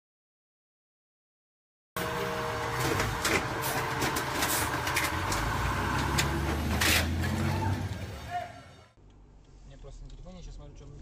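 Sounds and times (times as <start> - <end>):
street noise: 2.0 - 11.0.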